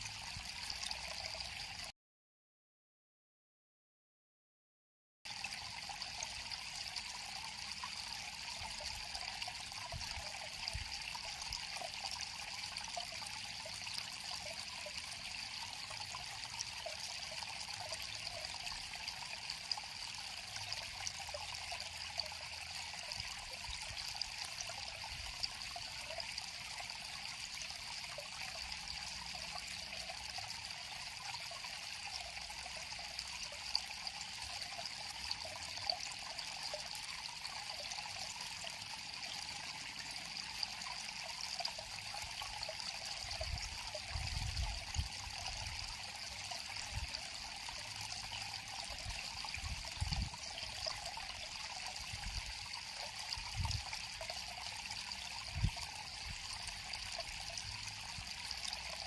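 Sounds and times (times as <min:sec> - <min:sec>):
river water trickling: 0:00.0 - 0:01.9, 0:05.3 - 0:59.0.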